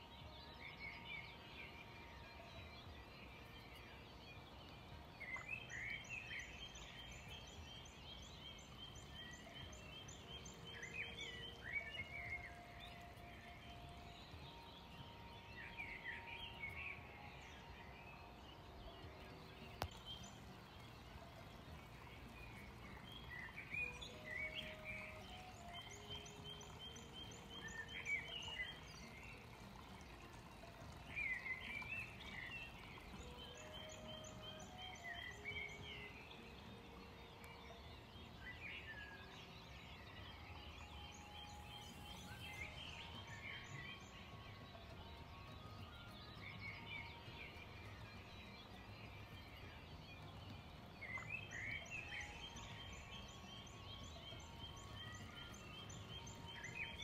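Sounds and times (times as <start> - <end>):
birds chirping and singing: 0.0 - 57.0
soft background music: 0.0 - 57.0.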